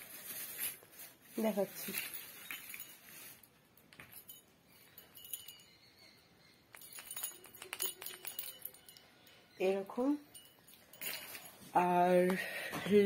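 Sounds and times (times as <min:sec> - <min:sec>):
small bells tinkling: 0:01.4 - 0:13.0.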